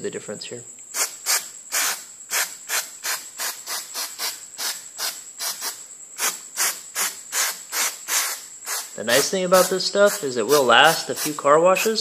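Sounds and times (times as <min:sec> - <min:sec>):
aerosol can spraying: 0:00.9 - 0:12.0.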